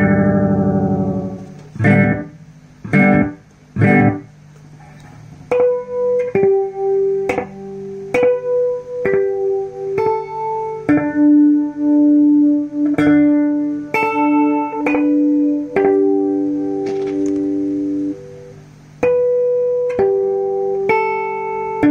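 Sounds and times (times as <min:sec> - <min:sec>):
plucked guitar notes with echo: 0:00.0 - 0:21.9.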